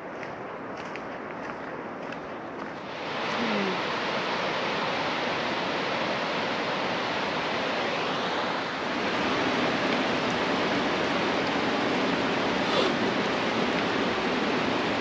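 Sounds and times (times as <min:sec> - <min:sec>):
creek rushing over boulders: 0:02.6 - 0:15.0.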